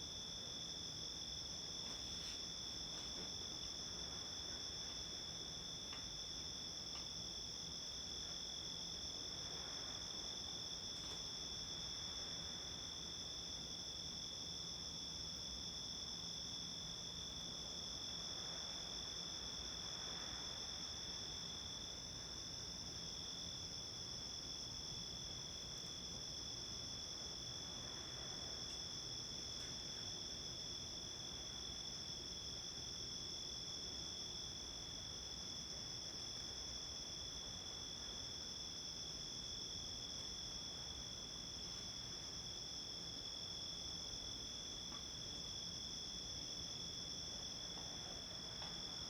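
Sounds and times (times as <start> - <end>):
faint low hiss: 0.0 - 49.0.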